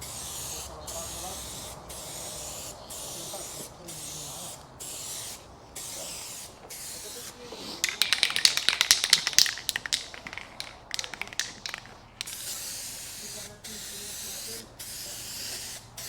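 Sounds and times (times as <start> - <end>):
aerosol can spraying: 0.0 - 15.9
spray can rattling when shaken: 1.1 - 14.6.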